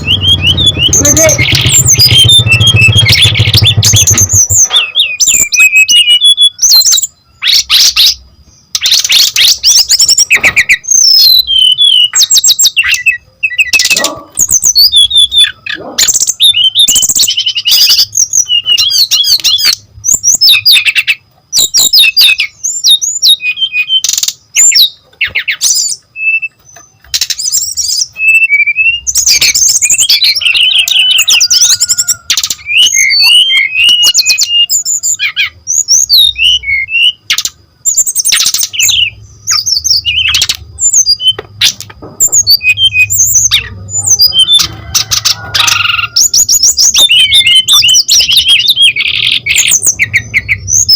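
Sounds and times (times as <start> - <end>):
bird singing whistles and trills: 0.0 - 50.9.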